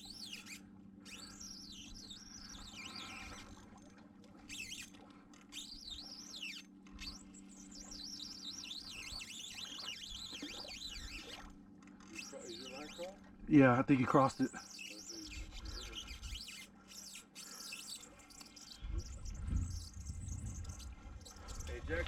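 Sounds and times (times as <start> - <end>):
songbird twittering: 0.0 - 3.6, 4.5 - 4.9, 5.5 - 11.5, 12.2 - 13.2, 14.2 - 22.0.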